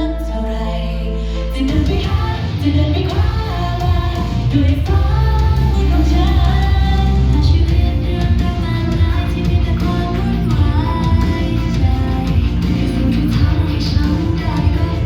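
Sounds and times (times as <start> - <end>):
pop backing track with heavy bass: 0.0 - 15.0
woman singing: 0.0 - 15.0.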